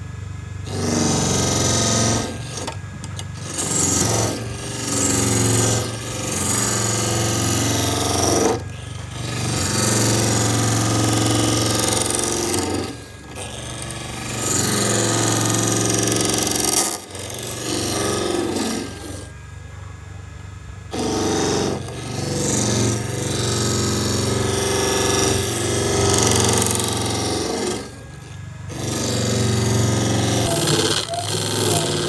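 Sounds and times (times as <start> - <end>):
power sander rasping on wood: 0.7 - 19.4, 20.9 - 32.0.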